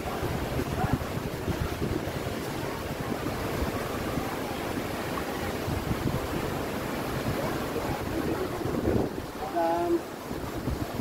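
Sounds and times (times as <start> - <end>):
surf washing on beach: 0.0 - 11.0
wind buffeting microphone: 0.0 - 11.0.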